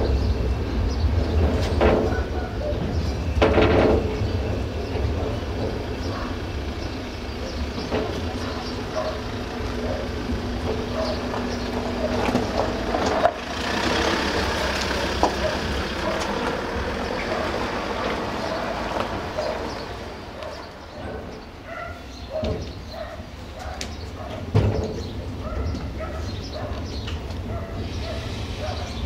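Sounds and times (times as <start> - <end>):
rail vehicle running: 0.0 - 29.0.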